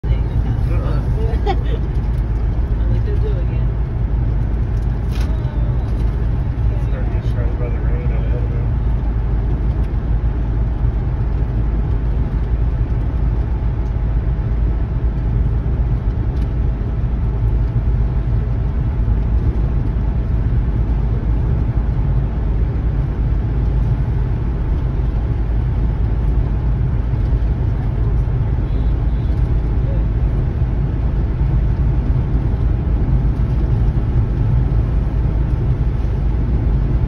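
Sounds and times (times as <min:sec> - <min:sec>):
vehicle cabin road rumble: 0:00.0 - 0:37.0.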